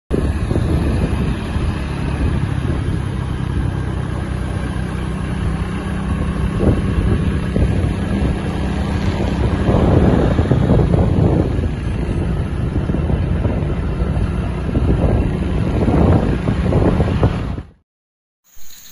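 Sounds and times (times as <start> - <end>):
road and wind noise: 0.1 - 17.8
vehicle engine humming: 0.1 - 17.8.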